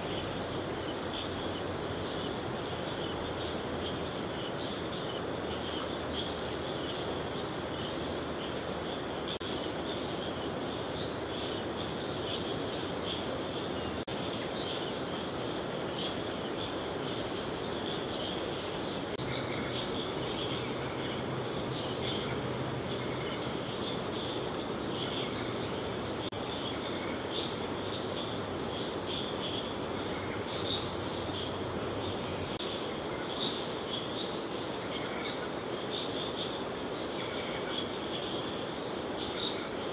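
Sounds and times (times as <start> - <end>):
constant hiss: 0.0 - 39.9
crickets and insects chirping: 0.0 - 39.9.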